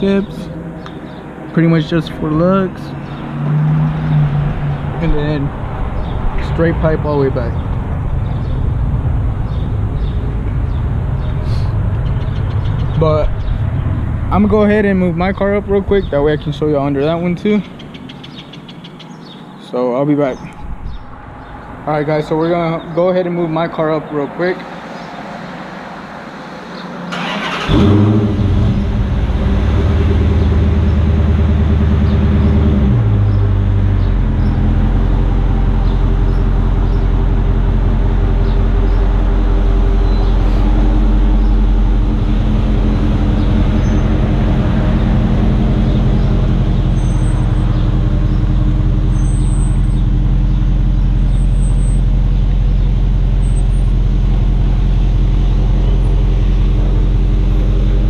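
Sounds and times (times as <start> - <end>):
car engine cranking and idling: 0.0 - 17.6, 27.1 - 58.0.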